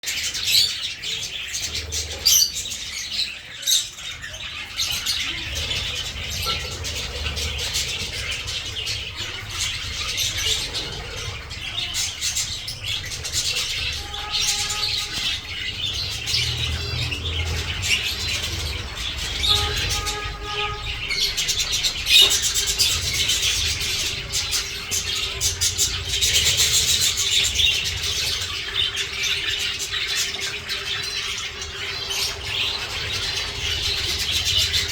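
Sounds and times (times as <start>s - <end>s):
cage birds chirping: 0.0s - 34.9s.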